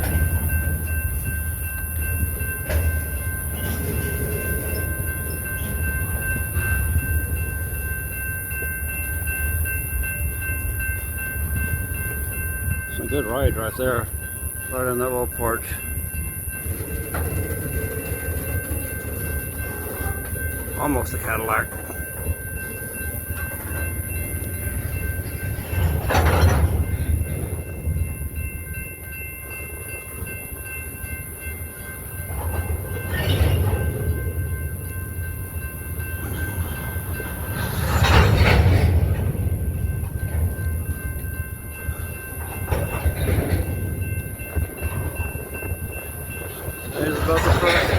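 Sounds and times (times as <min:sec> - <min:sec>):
train rumbling on track: 0:00.0 - 0:47.9.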